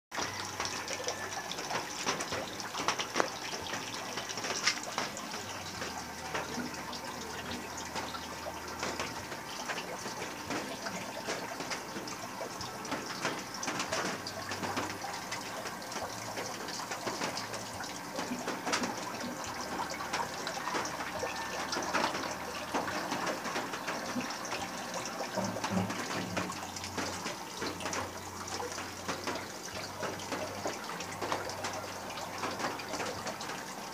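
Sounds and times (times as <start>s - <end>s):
water running and bubbling: 0.1s - 33.9s
small crackles: 0.2s - 33.9s.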